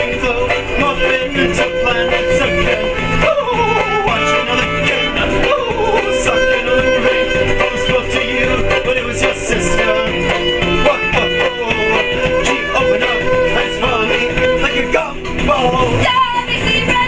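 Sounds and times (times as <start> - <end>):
fiddle tune: 0.0 - 17.0.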